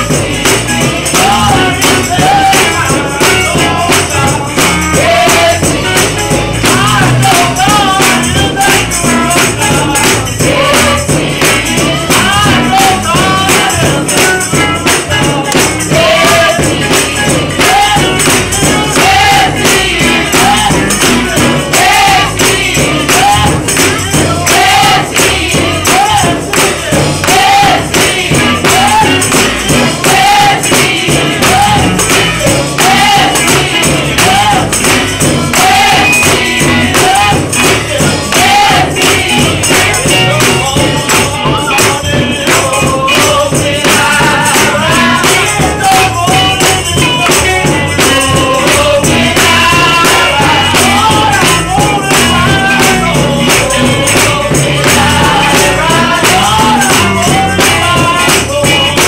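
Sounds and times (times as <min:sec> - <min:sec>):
group singing gospel: 0:00.0 - 0:59.0
hands clapping on the beat: 0:00.0 - 0:59.0.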